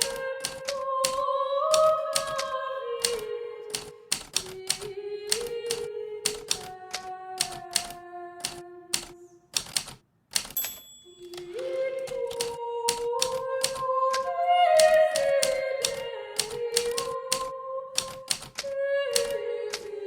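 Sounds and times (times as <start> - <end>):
typewriter keys striking: 0.0 - 14.2, 14.8 - 19.9.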